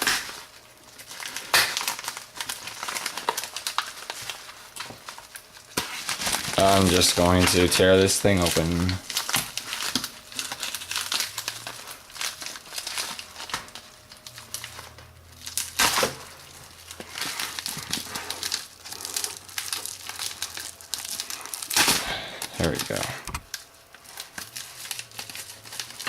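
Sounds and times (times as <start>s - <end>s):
package packaging crinkling and ripping: 0.0s - 26.0s.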